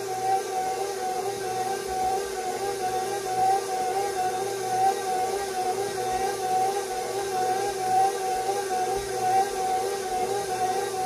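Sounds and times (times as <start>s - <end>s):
stand mixer motor whine: 0.0s - 11.0s.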